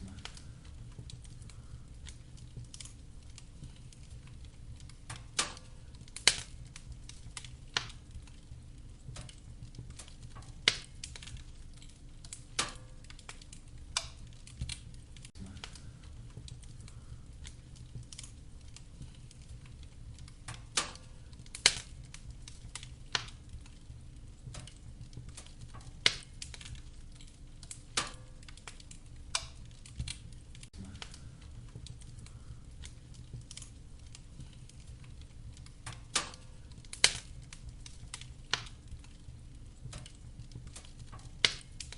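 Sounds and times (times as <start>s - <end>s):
firewood popping and snapping: 0.0s - 41.9s
low rumble of flames: 0.0s - 41.9s.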